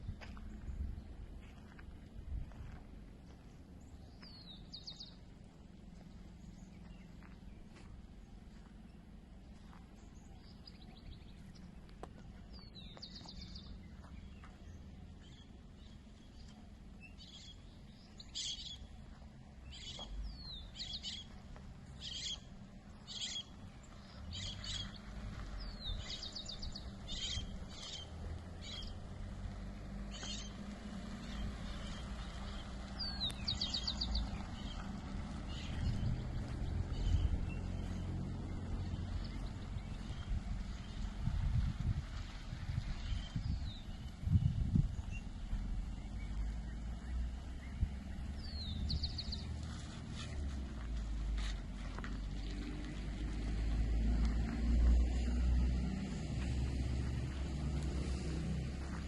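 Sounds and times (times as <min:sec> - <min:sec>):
steady low rumble: 0:00.0 - 0:55.2.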